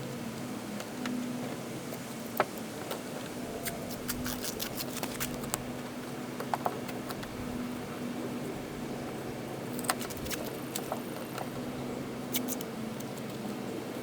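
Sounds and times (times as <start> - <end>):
masking tape clicks and crackles: 0.4 - 7.8, 9.6 - 11.6, 12.2 - 14.0.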